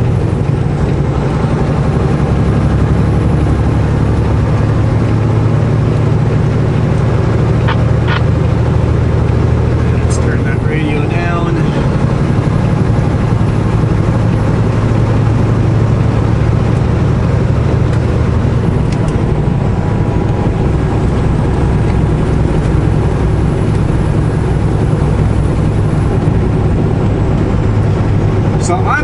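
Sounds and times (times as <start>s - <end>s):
diesel truck engine droning: 0.0s - 29.0s
road and tyre noise: 0.0s - 29.0s.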